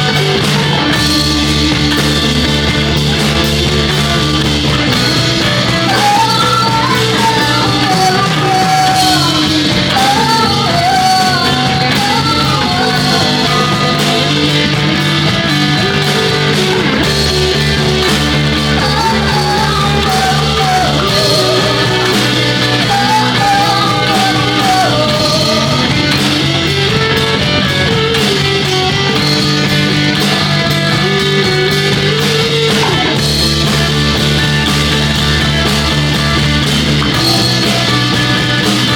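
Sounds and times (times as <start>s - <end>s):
bending guitar melody lines: 0.0s - 38.9s
live rock band playing: 0.0s - 38.9s.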